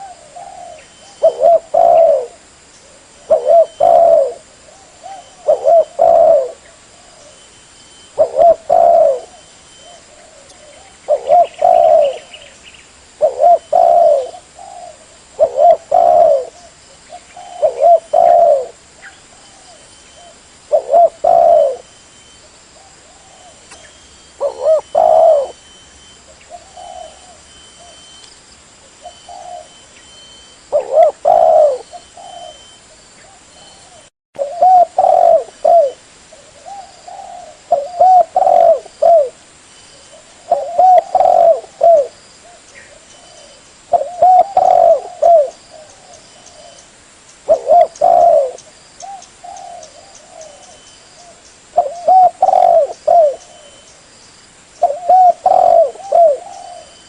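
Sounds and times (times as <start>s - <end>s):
dove cooing: 0.0s - 7.5s, 8.1s - 12.6s, 13.2s - 28.2s, 28.9s - 39.4s, 40.0s - 53.9s, 54.8s - 57.0s.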